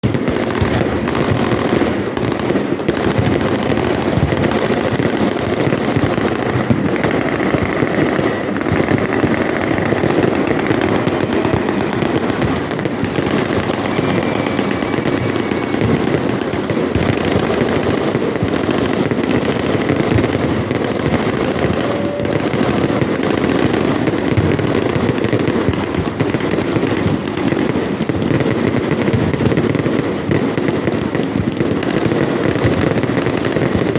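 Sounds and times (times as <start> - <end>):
fireworks banging and crackling: 0.0 - 33.9.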